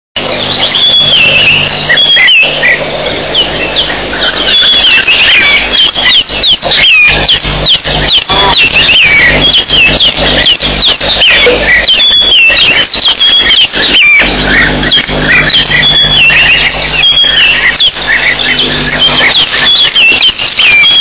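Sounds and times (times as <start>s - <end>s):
birds chattering and whistling: 0.2s - 21.0s.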